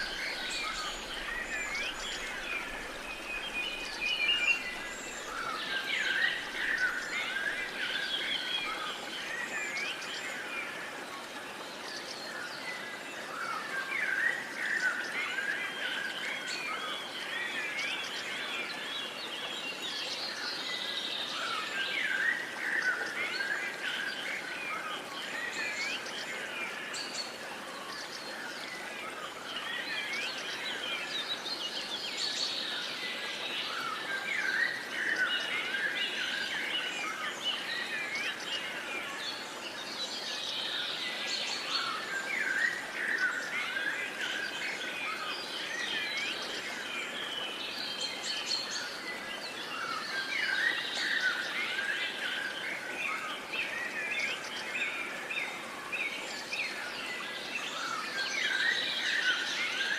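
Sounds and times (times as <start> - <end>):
faint outdoor hiss: 0.0 - 59.9.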